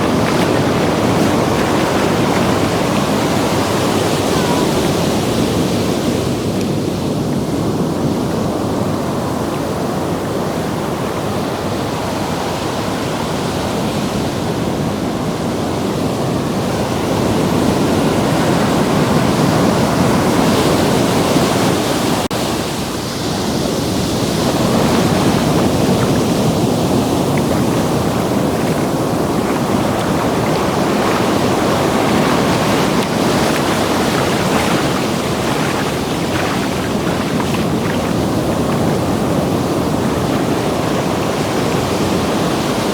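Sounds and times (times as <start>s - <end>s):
ocean surf washing: 0.0s - 42.9s.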